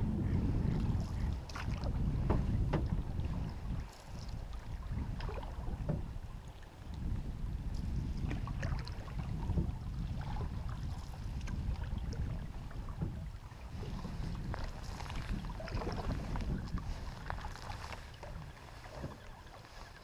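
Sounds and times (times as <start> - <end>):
paddle strokes and drips: 0.0 - 20.0
wind rumble on microphone: 0.0 - 20.0.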